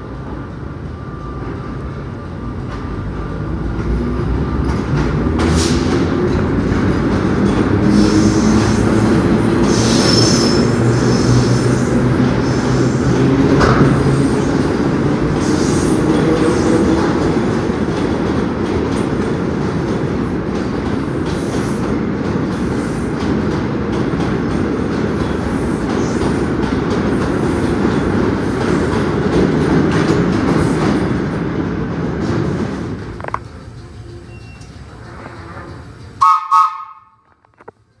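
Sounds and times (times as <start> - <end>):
subway train wheels rumbling: 0.0 - 38.0
rail clicks: 2.6 - 38.0.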